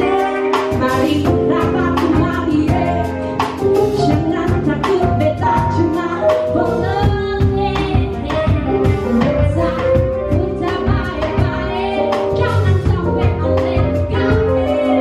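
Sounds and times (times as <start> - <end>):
band accompaniment with steady beat: 0.0 - 15.0
woman singing: 0.0 - 15.0.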